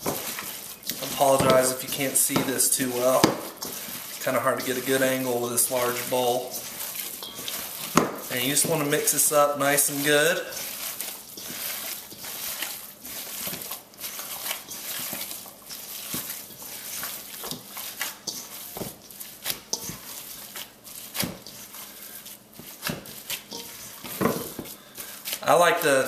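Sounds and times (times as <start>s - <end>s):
meat mixture squelching: 0.0s - 26.0s.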